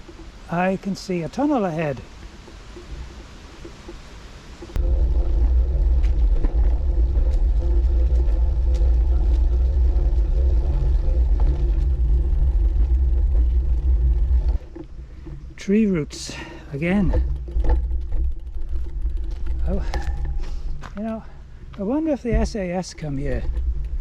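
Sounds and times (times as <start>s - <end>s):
bicycle tyre rumble on bumpy path: 0.0s - 24.0s.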